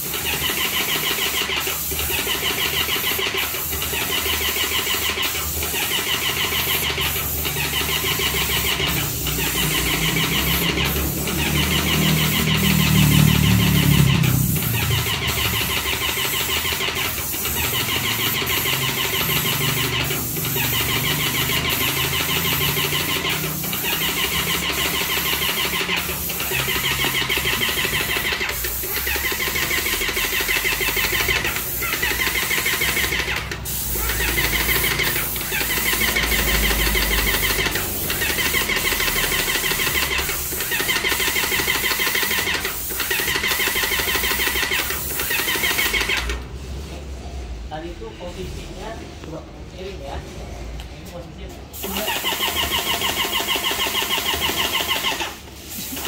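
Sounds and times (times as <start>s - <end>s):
paint sprayer pump chatter: 0.0s - 46.4s, 51.7s - 56.0s.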